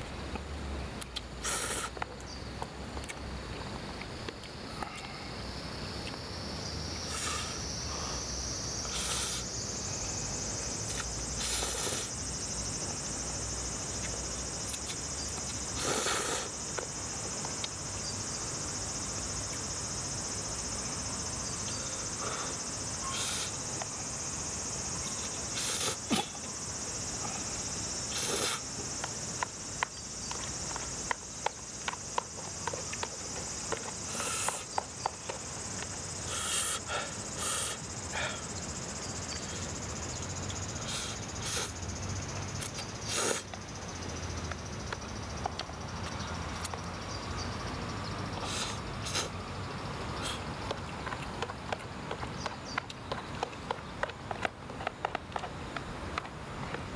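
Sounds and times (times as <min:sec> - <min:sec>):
insects chirping: 0:00.0 - 0:56.9.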